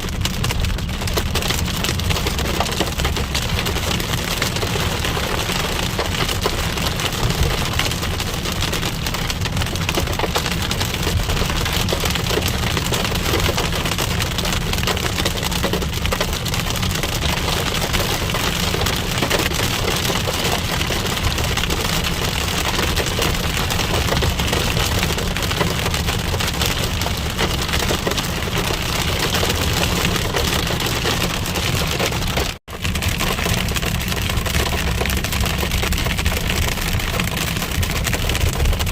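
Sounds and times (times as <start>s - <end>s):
hail and rain pelting car: 0.0s - 38.9s
moving car rumble: 0.0s - 38.9s.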